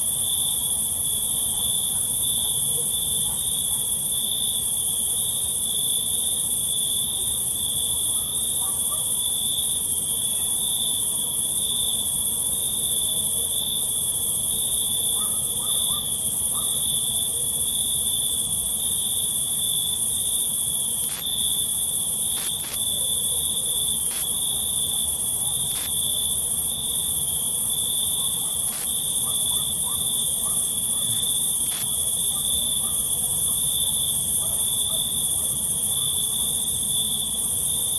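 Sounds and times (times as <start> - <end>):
crickets trilling: 0.0 - 37.9
high insect hiss: 0.0 - 37.9.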